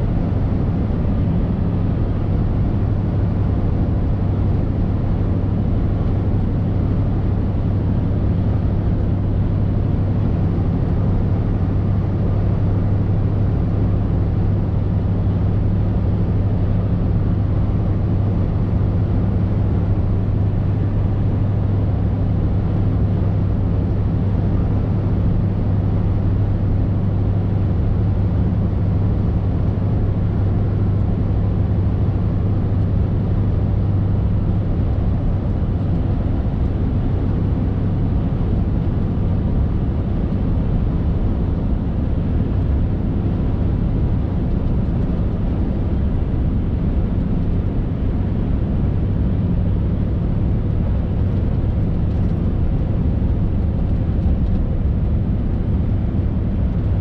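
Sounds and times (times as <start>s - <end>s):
diesel truck engine hum: 0.0s - 57.0s.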